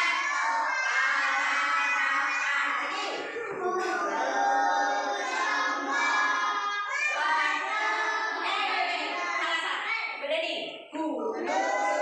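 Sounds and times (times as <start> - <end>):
children singing in unison: 0.0 - 9.4, 11.2 - 12.0.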